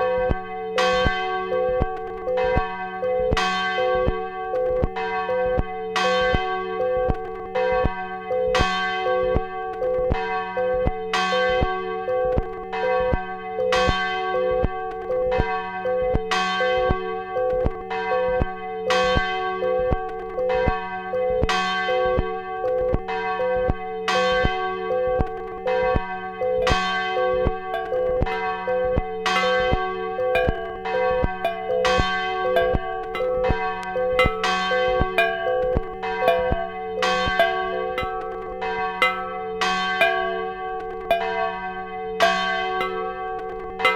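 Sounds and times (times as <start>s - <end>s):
church bells pealing: 0.0s - 43.9s.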